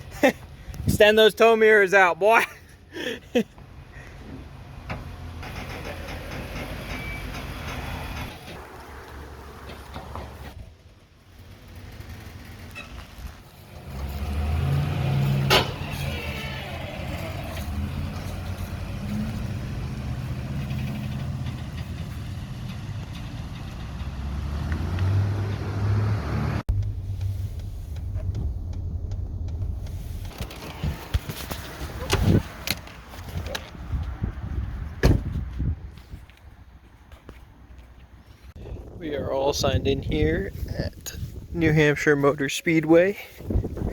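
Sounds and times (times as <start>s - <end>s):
truck engine rumble: 1.9s - 43.9s.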